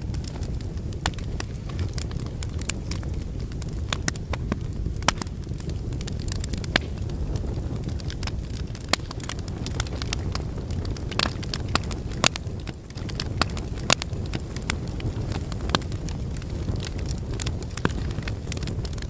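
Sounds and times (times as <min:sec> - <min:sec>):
fire crackles and pops: 0:00.0 - 0:19.0
low rumble of flames: 0:00.0 - 0:19.0.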